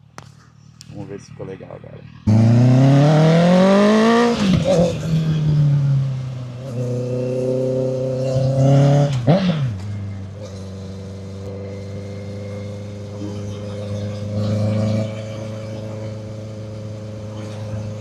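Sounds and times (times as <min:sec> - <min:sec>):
motorcycle engine revving and idling: 0:00.0 - 0:18.0.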